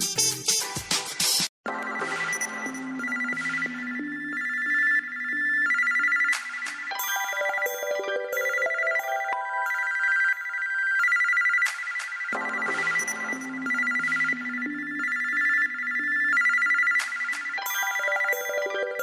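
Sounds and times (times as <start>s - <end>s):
electronic ringtone melody: 1.7s - 19.0s.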